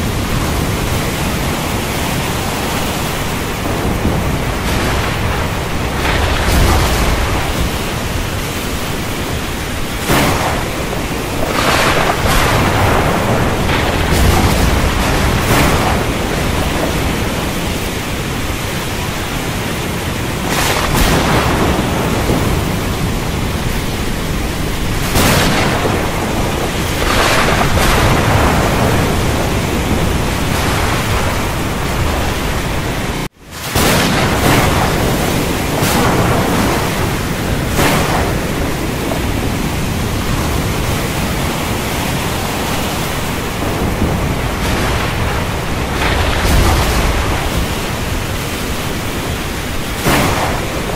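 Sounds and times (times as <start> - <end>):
rain roar: 0.0 - 50.9
wind: 0.0 - 50.9.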